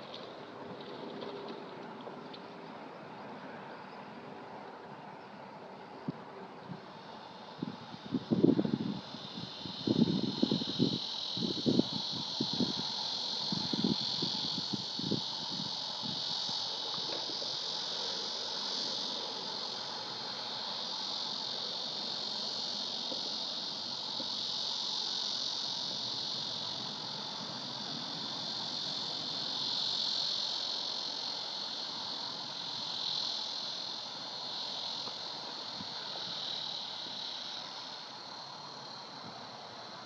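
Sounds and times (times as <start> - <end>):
insects chorus: 0.0 - 40.0.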